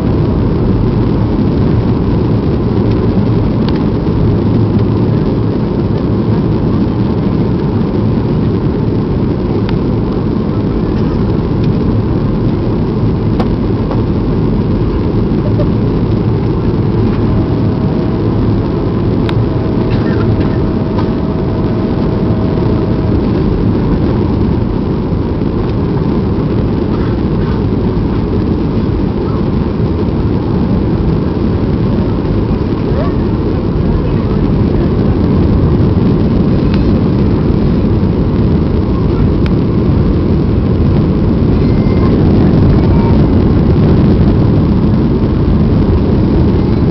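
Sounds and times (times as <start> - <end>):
jet engine drone in cabin: 0.0 - 46.9
rushing airflow: 0.0 - 46.9.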